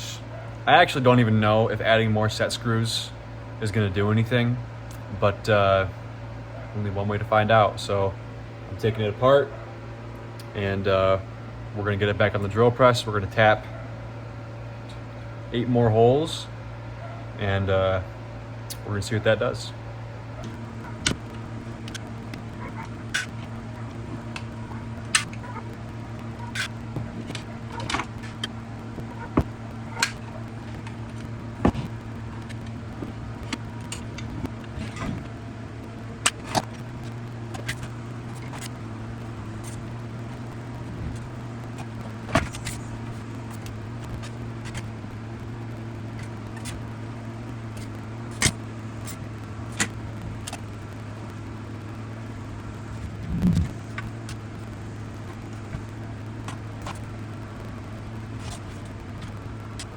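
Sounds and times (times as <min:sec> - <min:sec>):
drill press motor hum: 0:07.2 - 0:59.9.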